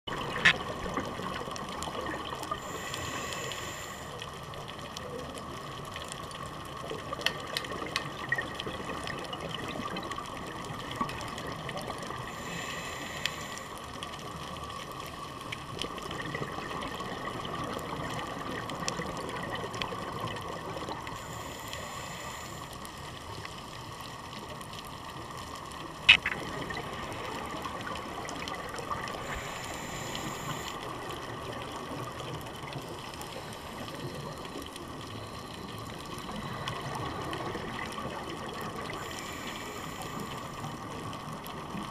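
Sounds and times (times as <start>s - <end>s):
steady underwater hiss: 0.1s - 41.9s.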